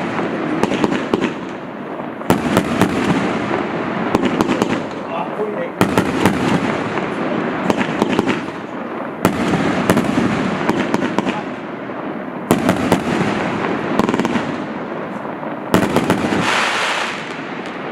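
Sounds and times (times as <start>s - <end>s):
firework aerial bursts: 0.0s - 17.9s
firework crackle: 0.0s - 17.9s.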